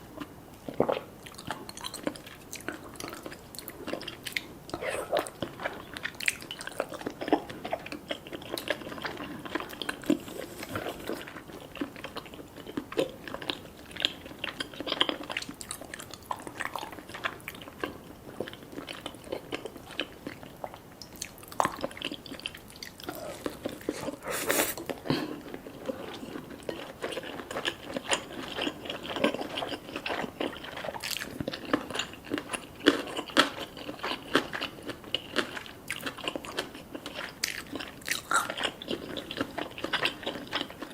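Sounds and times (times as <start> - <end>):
person chewing and biting: 0.7 - 40.9.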